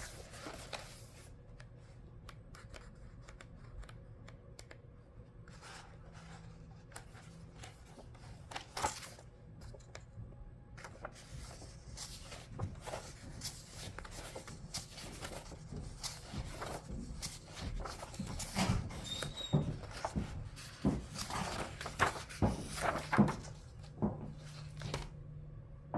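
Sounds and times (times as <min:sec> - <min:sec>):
soft taps of pages: 0:00.0 - 0:04.9, 0:05.5 - 0:10.1, 0:10.8 - 0:25.1
book pages rustling: 0:00.0 - 0:10.1, 0:10.8 - 0:25.2.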